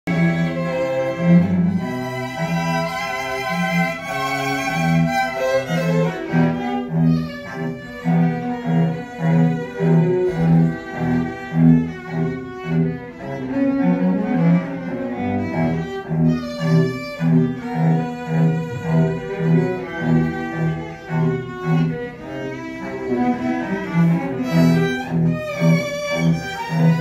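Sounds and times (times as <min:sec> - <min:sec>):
cello repeating short low notes: 0:00.1 - 0:27.0
violins playing melody: 0:00.1 - 0:27.0.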